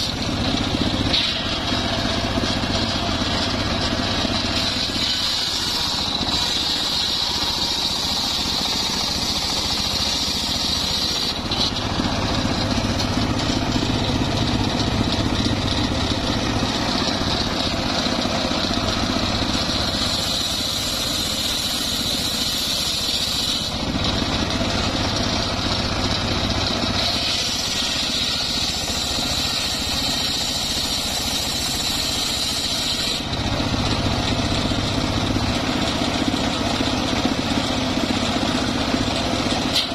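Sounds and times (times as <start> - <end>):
circular saw cutting planks: 0.0 - 39.9.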